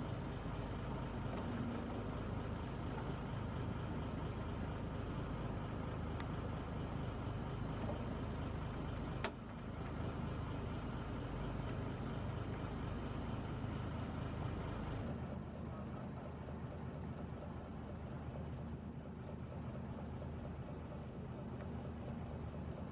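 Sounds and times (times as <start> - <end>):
boat engine rumbling: 0.0 - 22.9.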